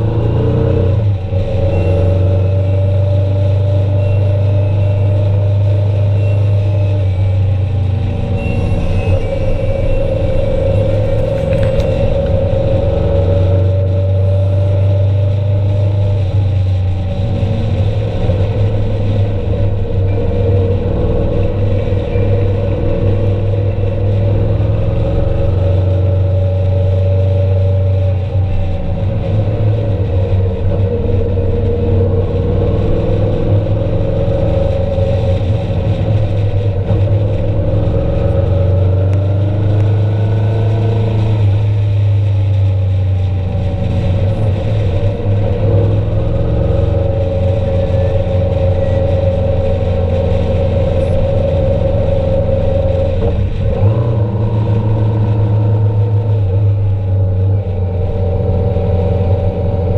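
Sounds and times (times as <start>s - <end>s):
road and wind rumble: 0.0s - 59.9s
vehicle engine running: 0.0s - 59.9s.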